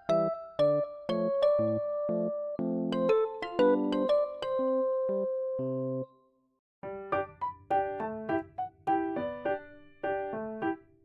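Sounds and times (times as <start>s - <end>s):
keyboard background music: 0.0s - 6.2s, 6.8s - 11.0s.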